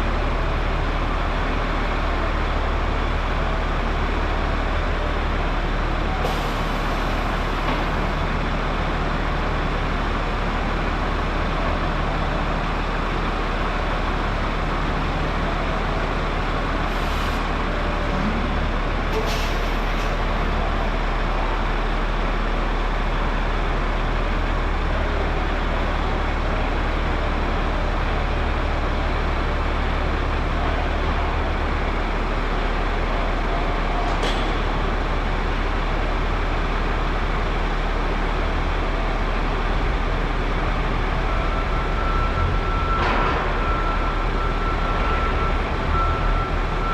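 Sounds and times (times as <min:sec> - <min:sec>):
machinery drone with low hum: 0:00.0 - 0:46.9.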